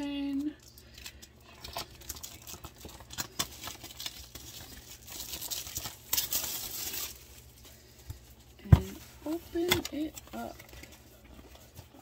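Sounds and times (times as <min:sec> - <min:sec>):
cellophane wrap crinkling: 0:00.0 - 0:12.0.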